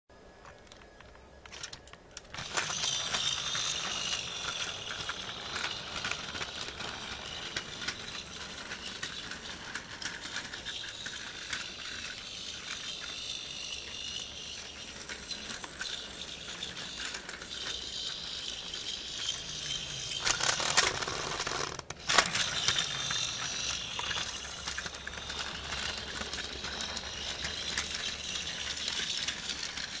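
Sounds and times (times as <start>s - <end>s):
toy train running on plastic track: 0.4s - 30.0s.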